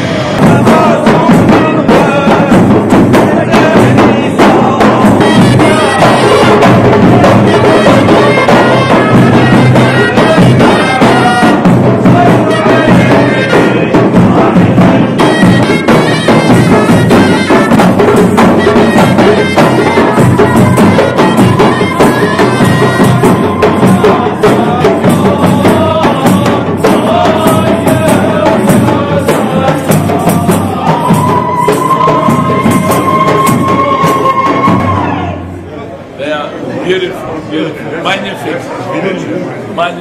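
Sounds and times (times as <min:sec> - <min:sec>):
steady drum beat: 0:00.0 - 0:35.6
reed wind instrument: 0:03.5 - 0:35.7.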